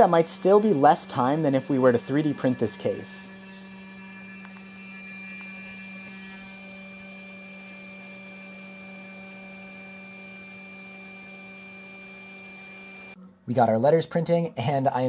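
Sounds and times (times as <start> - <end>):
high whine: 0.0 - 13.2
router spindle hum: 0.0 - 13.2.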